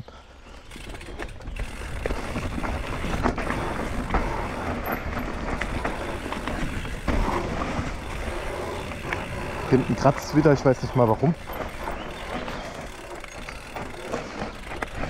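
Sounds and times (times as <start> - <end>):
bike tyres on dry leaves: 0.4 - 15.0
bike rattles and knocks: 0.6 - 15.0.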